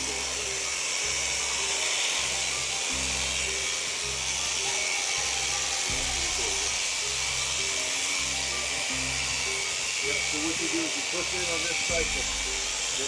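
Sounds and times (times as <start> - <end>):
background music: 0.0 - 13.0
electric shearing handpiece buzzing: 0.0 - 13.0.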